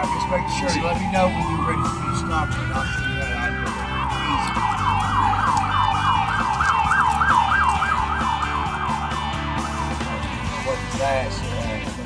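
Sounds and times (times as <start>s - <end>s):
siren yelping: 0.0s - 10.6s.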